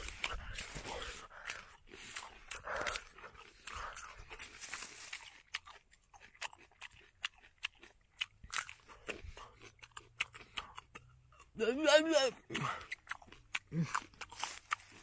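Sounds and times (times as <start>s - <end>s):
person biting crunchy fruit: 0.0s - 11.6s, 12.4s - 15.0s.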